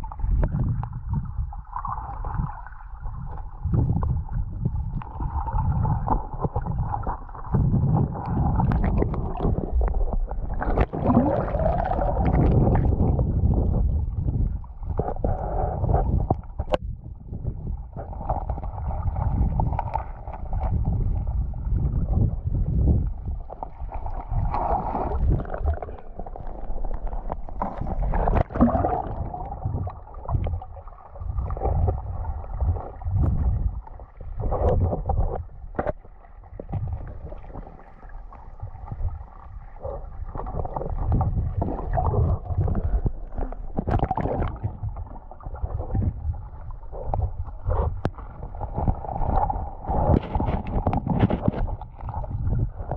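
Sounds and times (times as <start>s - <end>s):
underwater rumble and gurgling: 0.0s - 52.9s.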